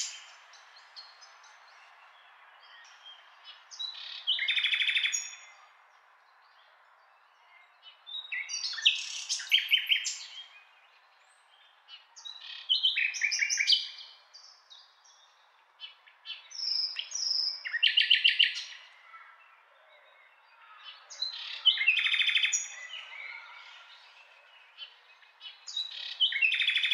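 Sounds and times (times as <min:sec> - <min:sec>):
nightingale singing: 0:00.0 - 0:05.6, 0:07.5 - 0:18.8, 0:19.9 - 0:26.9.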